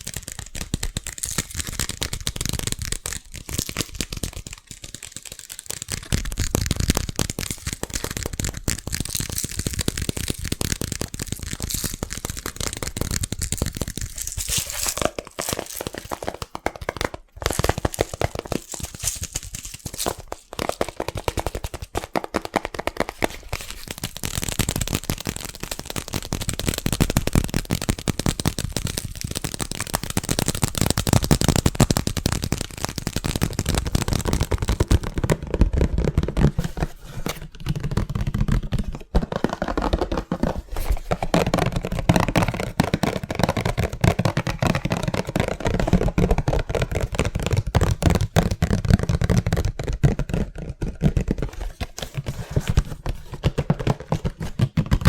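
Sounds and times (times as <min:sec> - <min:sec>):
hands tapping fast on objects: 0:00.0 - 0:55.0.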